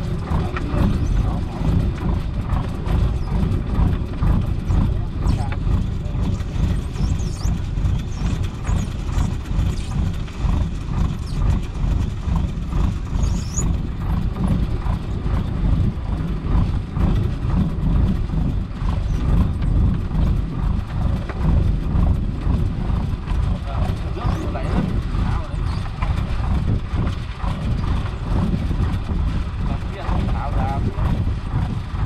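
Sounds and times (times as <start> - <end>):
boat diesel engine throbbing: 0.0 - 32.0.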